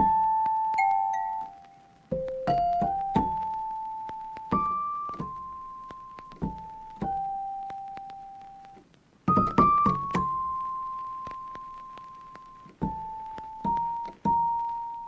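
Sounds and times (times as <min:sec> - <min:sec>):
slow sparse piano melody: 0:00.0 - 0:15.0.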